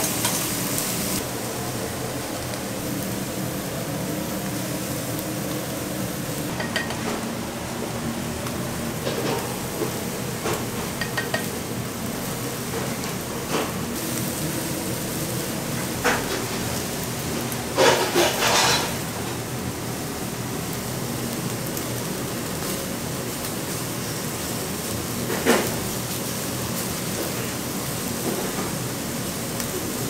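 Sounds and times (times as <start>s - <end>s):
chicken sizzling on a grill: 0.0s - 30.0s.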